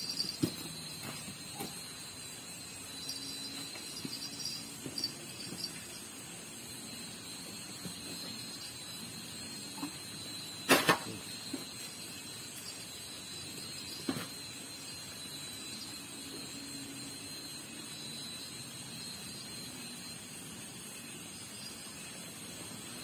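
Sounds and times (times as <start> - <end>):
night ambience hiss: 0.0 - 23.0
thin high steady tone: 0.0 - 23.0.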